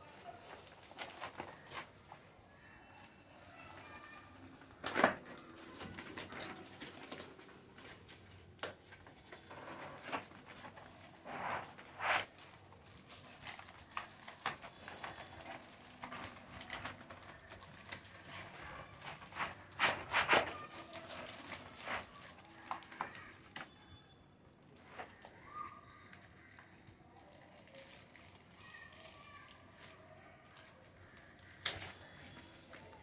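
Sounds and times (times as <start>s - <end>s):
packaging crinkling and scraping: 0.0s - 2.2s, 3.7s - 23.8s, 27.3s - 33.0s.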